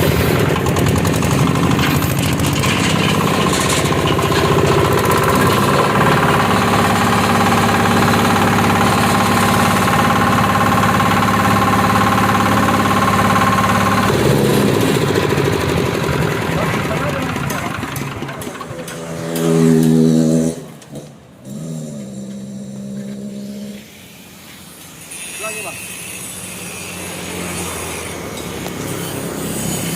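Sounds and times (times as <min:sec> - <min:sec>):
husking machine drone and rattle: 0:00.0 - 0:29.9.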